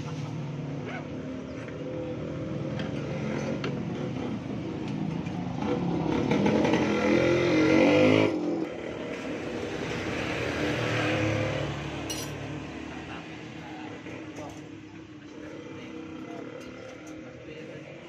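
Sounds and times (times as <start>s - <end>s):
motorcycle engine revving: 2.0s - 14.1s, 15.2s - 18.0s.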